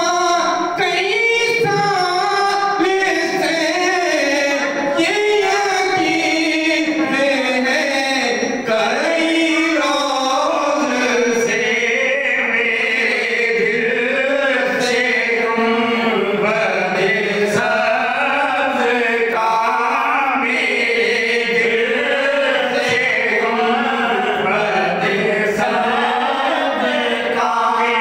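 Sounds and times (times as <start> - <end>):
man singing unaccompanied: 0.0 - 28.0.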